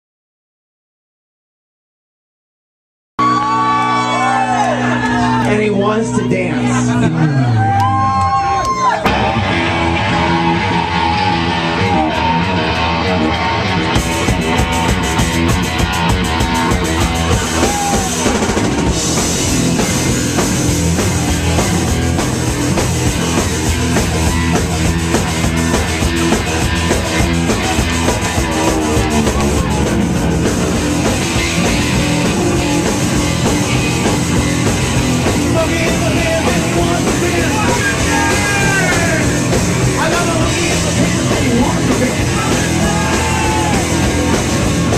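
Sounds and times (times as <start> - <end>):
rock music: 3.2 - 44.9.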